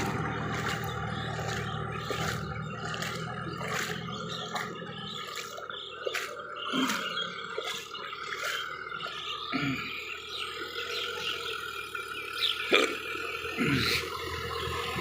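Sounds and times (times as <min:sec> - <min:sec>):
water splashing and sloshing: 0:00.0 - 0:12.0
tractor engine running: 0:00.0 - 0:15.0.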